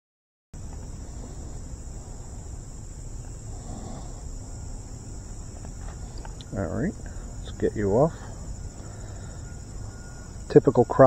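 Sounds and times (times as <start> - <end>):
low rumble: 0.6 - 10.5
insect chorus trilling: 0.6 - 11.0.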